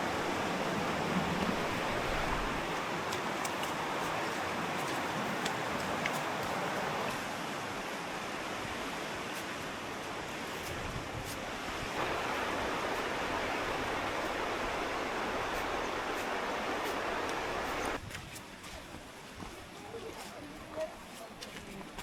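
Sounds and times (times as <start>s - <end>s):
river rushing: 0.0s - 18.0s.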